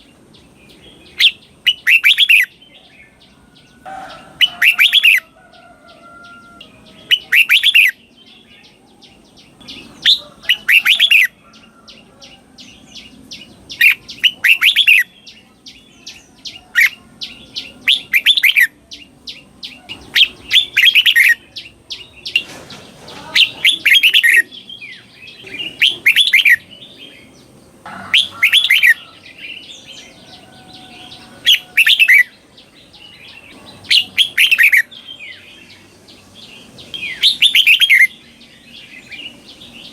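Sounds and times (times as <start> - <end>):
bird singing bright phrases: 0.0 - 39.9.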